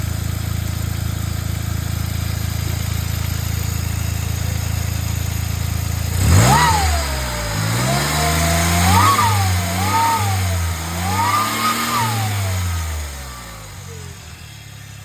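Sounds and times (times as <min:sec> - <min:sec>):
turbocharged engine idling and revving: 0:00.0 - 0:15.0.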